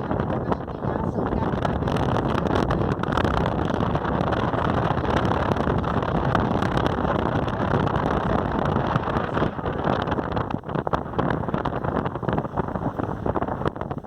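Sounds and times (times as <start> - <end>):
boat engine: 0.0 - 14.0
water rushing: 0.0 - 14.0.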